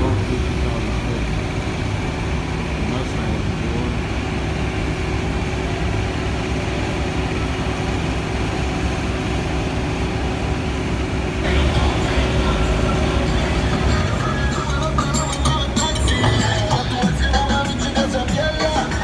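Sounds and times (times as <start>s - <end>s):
car engines rumbling: 0.0s - 19.0s.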